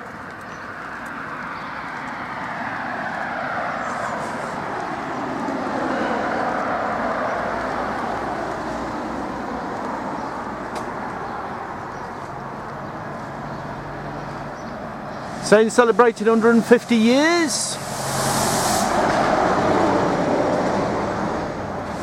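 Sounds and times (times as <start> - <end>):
road vehicle passing: 0.0 - 22.0.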